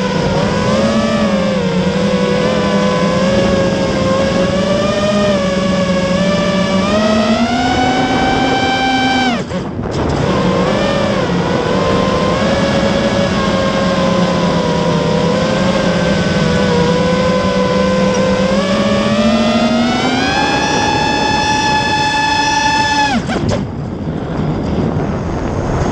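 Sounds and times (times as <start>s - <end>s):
quadcopter motors whining: 0.0s - 25.6s.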